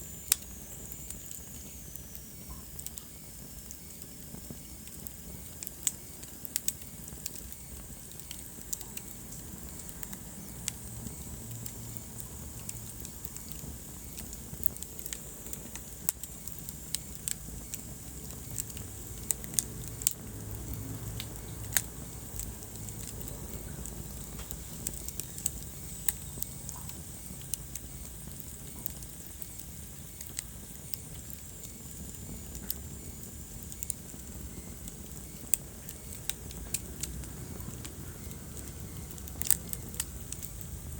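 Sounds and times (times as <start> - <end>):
low hiss of flames: 0.0 - 40.9
wood fire crackling: 0.0 - 40.9.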